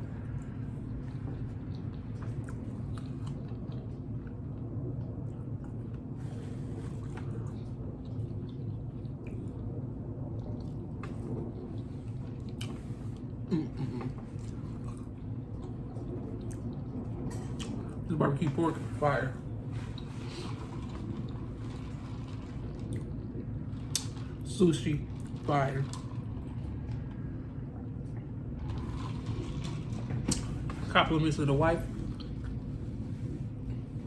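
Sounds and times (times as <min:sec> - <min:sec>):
man chewing food: 0:00.0 - 0:18.1, 0:19.4 - 0:24.5, 0:25.1 - 0:30.9, 0:31.9 - 0:34.0
steady low hum: 0:00.0 - 0:34.0.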